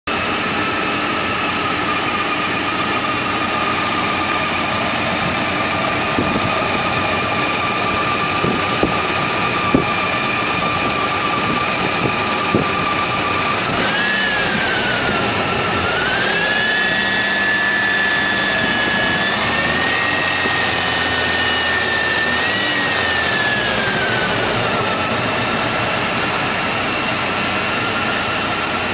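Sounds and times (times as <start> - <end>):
car engine running: 0.1 - 28.9
high-pitched squeal: 0.1 - 28.9.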